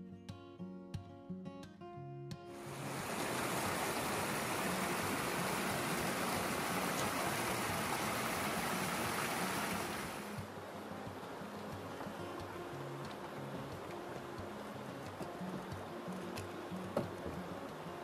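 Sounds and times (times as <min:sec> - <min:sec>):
acoustic guitar music: 0:00.0 - 0:18.0
creek flowing over rocks: 0:02.6 - 0:18.0.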